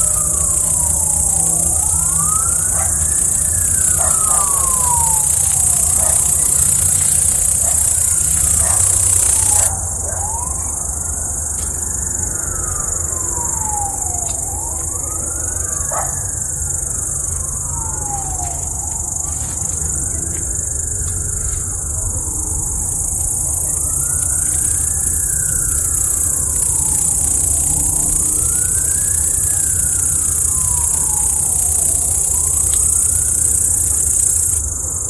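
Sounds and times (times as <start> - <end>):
siren wailing: 0.0 - 35.0.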